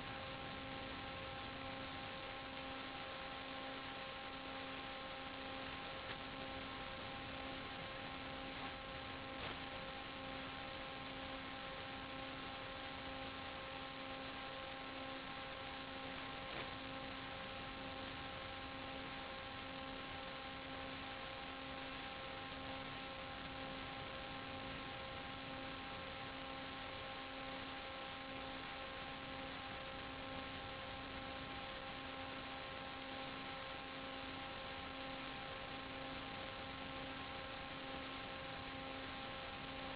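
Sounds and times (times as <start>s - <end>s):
constant hiss: 0.0s - 39.9s
electronic hum: 0.0s - 39.9s.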